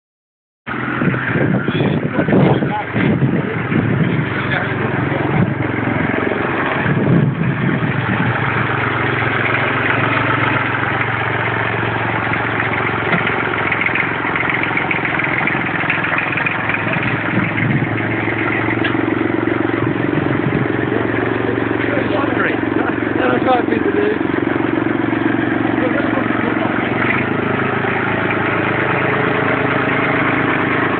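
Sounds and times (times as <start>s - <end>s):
tractor engine running: 0.7s - 30.9s.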